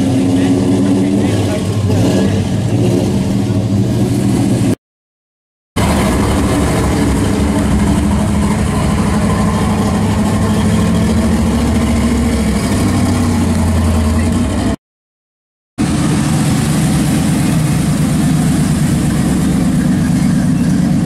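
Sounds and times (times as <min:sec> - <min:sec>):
car engine burbling: 0:00.0 - 0:04.8, 0:05.8 - 0:14.8, 0:15.8 - 0:21.0.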